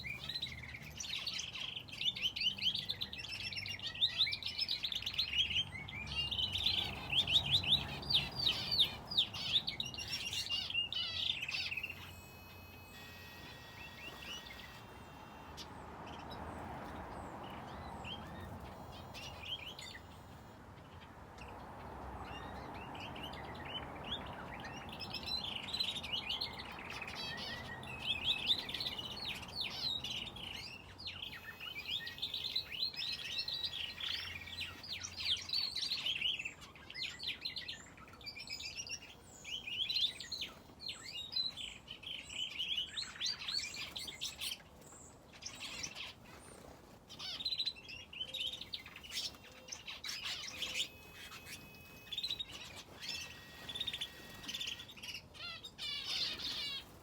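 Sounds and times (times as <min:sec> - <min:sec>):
finches and canary chirping: 0:00.0 - 0:57.0.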